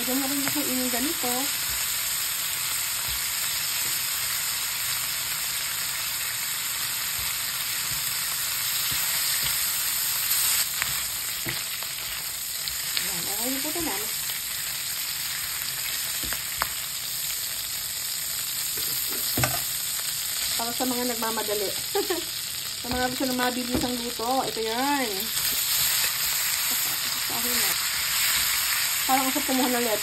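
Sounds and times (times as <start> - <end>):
meat sizzling in oil: 0.0 - 30.0.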